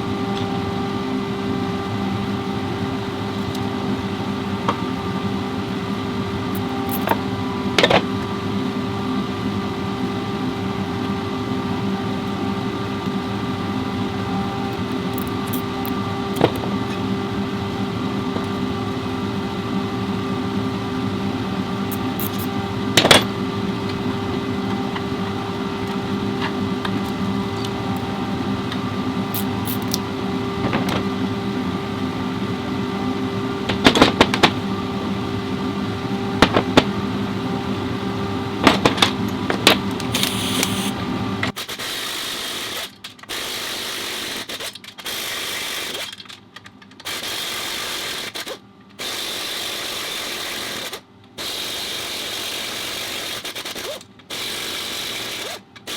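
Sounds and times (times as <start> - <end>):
choppy mechanical noise: 3.2 - 8.3, 11.6 - 55.9.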